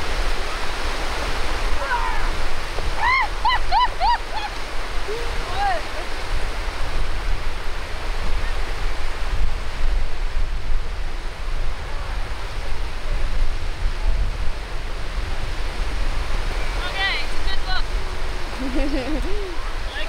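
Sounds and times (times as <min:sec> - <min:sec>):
surf on sandy beach: 0:00.0 - 0:20.0
wind rumbling on microphone: 0:00.0 - 0:20.0.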